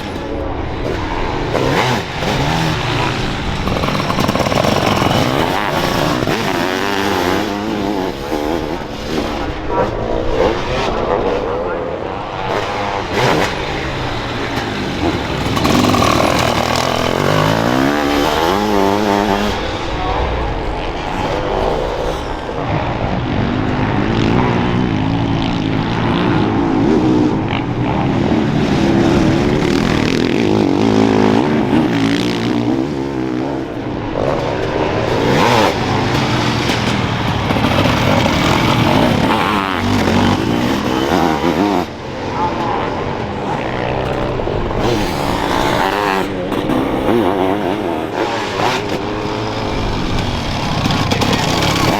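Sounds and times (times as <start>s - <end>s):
motocross engines revving: 0.0s - 51.9s.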